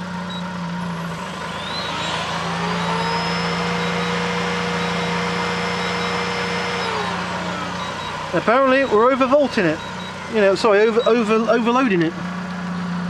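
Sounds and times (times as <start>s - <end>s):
vacuum cleaner motor whine: 0.0s - 13.0s
vehicle engine idling hum: 0.0s - 13.0s.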